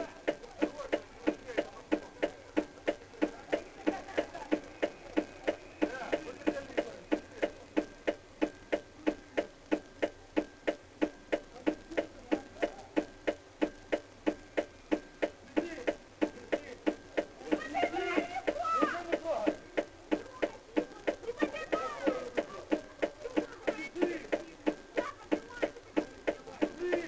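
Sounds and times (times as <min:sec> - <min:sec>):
steady ticking: 0:00.0 - 0:27.0.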